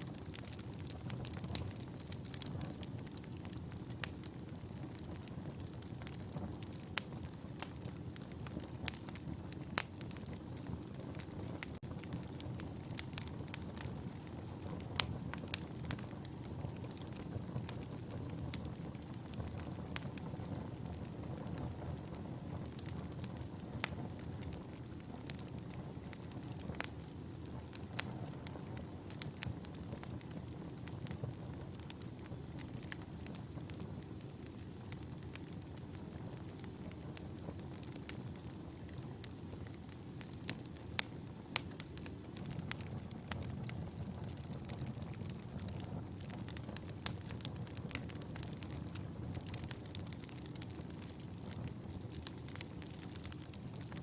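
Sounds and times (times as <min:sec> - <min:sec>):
fire crackles and pops: 0:00.0 - 0:54.0
wood fire rumble: 0:00.0 - 0:54.0.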